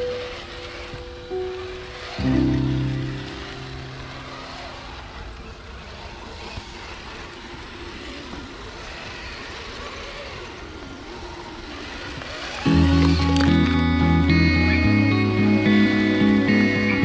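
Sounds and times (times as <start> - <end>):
small electric motors whirring: 0.0 - 16.7.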